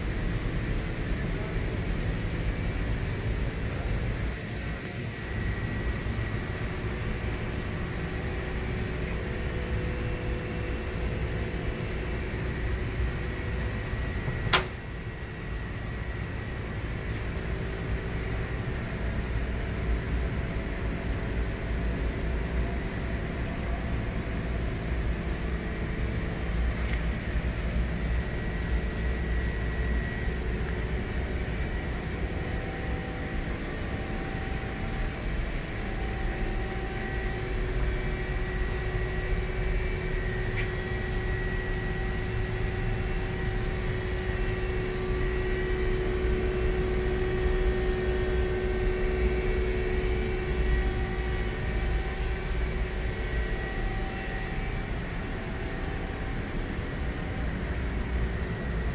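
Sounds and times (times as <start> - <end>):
machinery humming: 0.0 - 58.9.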